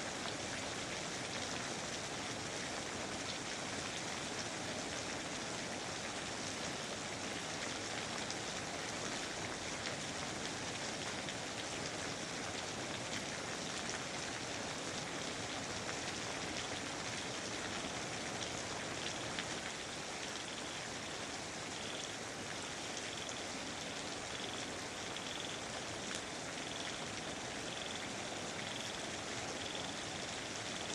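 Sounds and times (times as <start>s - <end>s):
steady rain: 0.0s - 30.9s.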